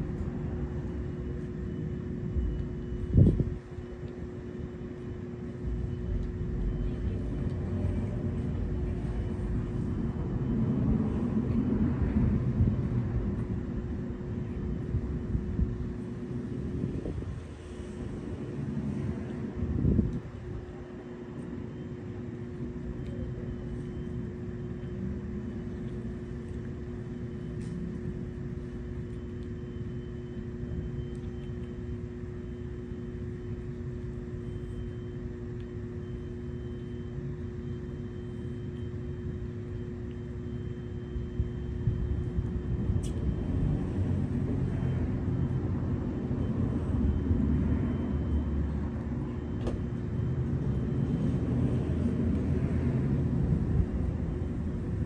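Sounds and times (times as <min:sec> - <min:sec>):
low mechanical hum with tones: 0:00.0 - 0:55.0.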